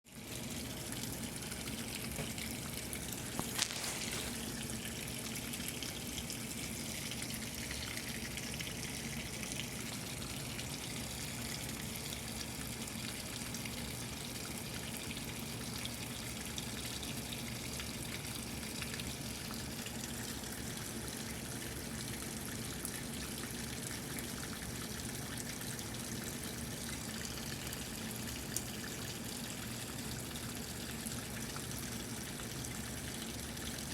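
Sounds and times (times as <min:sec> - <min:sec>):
washing machine water rushing: 0:00.1 - 0:33.9.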